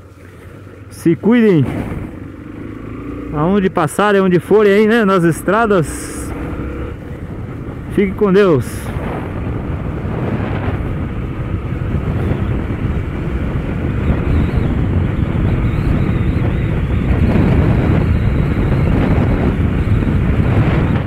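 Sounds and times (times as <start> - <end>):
motorcycle engine and road noise: 0.0 - 21.0
wind rushing over microphone: 0.0 - 21.0.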